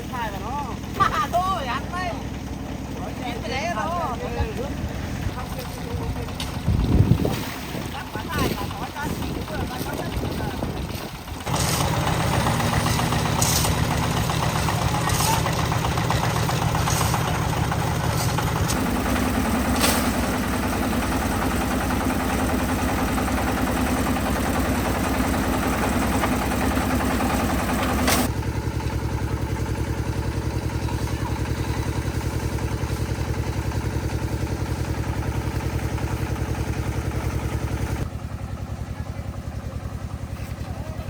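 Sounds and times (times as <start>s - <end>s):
concrete mixer engine running: 0.0s - 41.0s.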